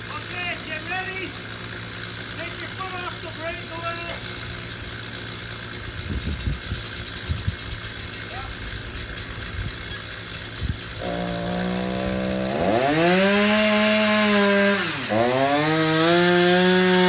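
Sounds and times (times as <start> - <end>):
chainsaw engine revving: 0.0 - 17.0.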